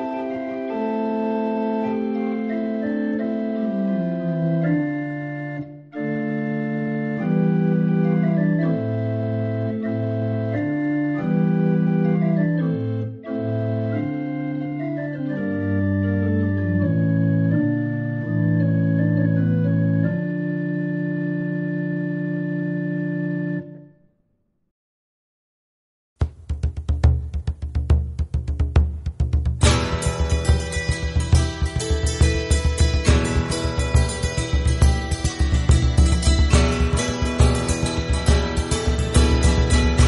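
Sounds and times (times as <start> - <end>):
slow organ chords: 0.0 - 23.9, 29.6 - 40.0.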